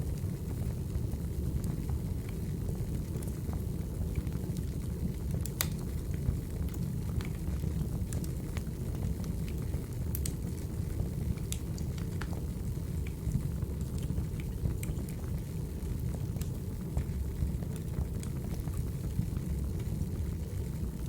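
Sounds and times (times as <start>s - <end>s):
low rumble of burning wood: 0.0s - 21.0s
fire pops and crackles: 0.1s - 21.0s.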